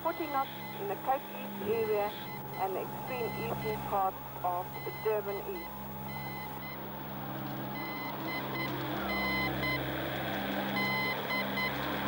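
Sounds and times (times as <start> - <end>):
morse code beeps: 0.0 - 6.9, 7.8 - 9.9, 10.7 - 11.8
steady low drone: 0.0 - 12.0.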